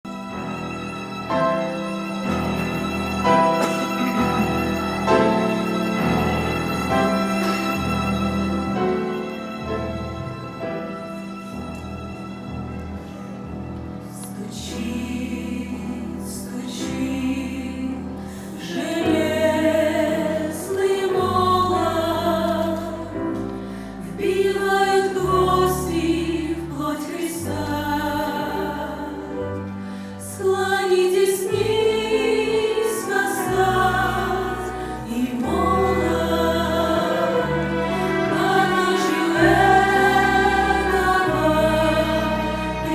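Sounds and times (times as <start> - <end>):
choral singing: 0.0 - 42.9.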